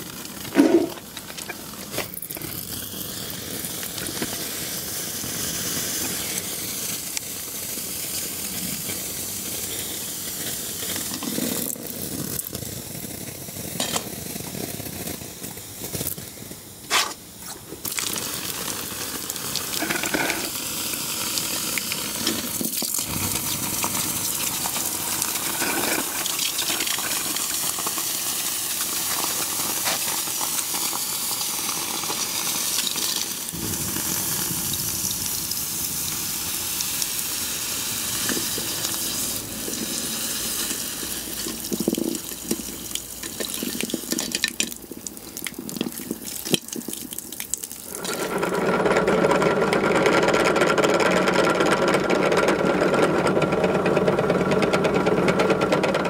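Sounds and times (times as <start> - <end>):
water sizzling on hot metal: 0.0 - 49.1.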